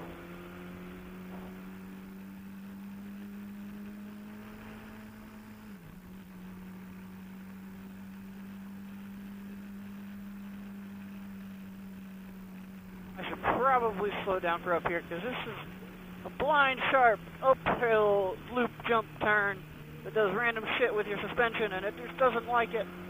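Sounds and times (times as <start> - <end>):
motorcycle engine drone: 0.0 - 23.0
road noise: 0.0 - 23.0.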